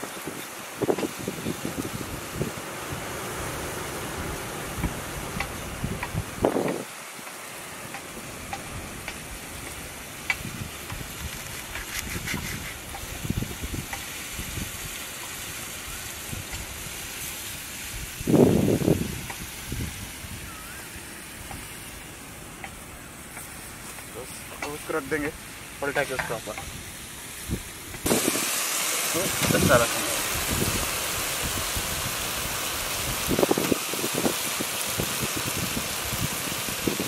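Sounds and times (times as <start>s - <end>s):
background hiss: 0.0s - 37.0s.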